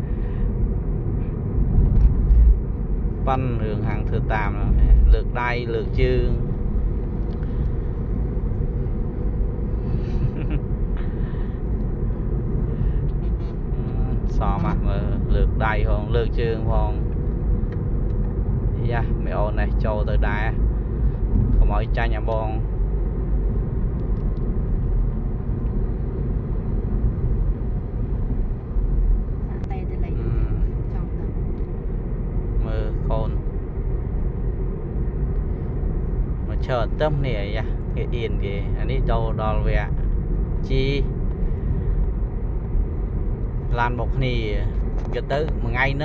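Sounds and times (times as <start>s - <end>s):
low outdoor background rumble: 0.0s - 46.0s.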